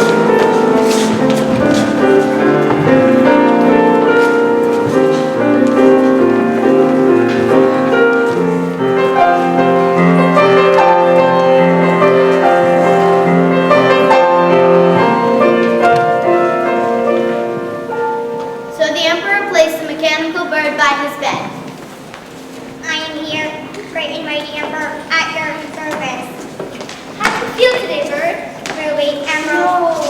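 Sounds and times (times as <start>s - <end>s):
instrumental piano music: 0.0s - 30.0s.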